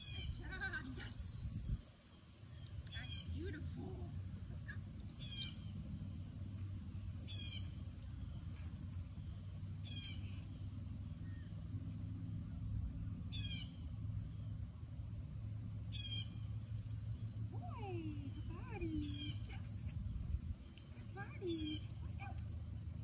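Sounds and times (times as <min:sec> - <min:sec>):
songbird singing: 0:00.0 - 0:23.0
steady low rumble: 0:00.0 - 0:23.0.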